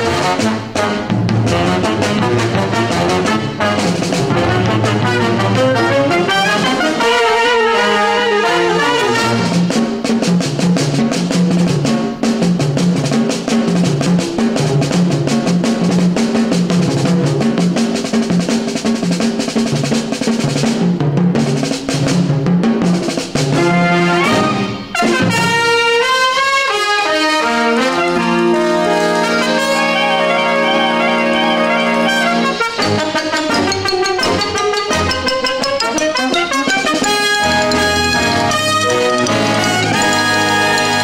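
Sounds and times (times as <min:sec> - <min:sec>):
brass-led instrumental music: 0:00.0 - 0:41.0.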